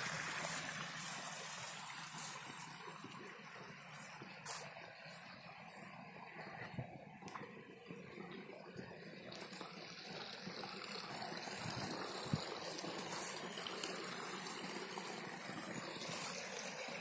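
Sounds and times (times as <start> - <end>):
water splashing into pond: 0.0 - 5.8, 7.2 - 17.0.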